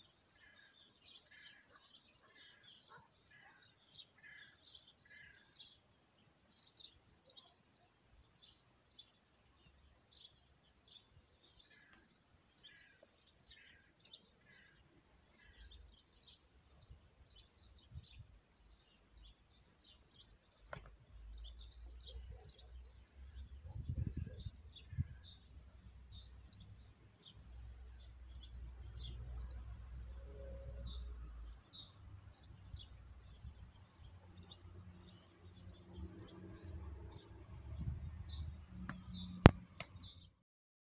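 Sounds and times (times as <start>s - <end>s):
small birds chirping: 0.0s - 40.4s.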